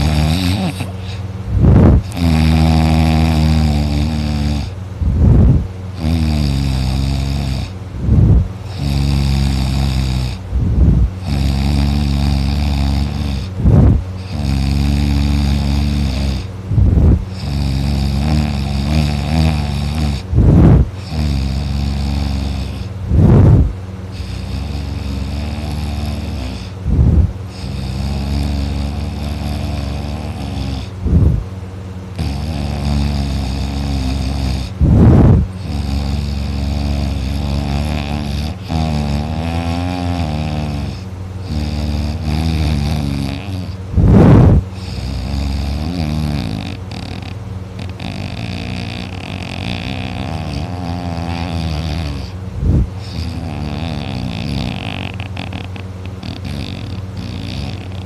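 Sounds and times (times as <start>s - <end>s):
person snoring: 0.0s - 31.4s, 32.1s - 58.0s
loud snoring bursts: 0.0s - 31.5s, 32.1s - 58.0s
low moaning: 0.0s - 31.5s, 32.2s - 40.1s, 42.0s - 58.0s.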